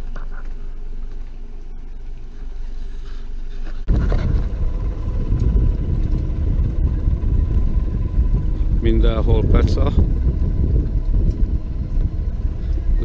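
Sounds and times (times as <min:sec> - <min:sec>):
fishing boat engine rumble: 0:00.0 - 0:13.0
steady low hum: 0:00.0 - 0:13.0.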